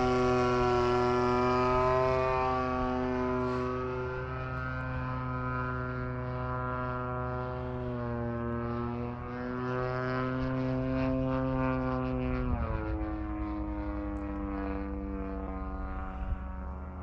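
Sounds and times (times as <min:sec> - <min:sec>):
model airplane motor drone: 0:00.0 - 0:17.0.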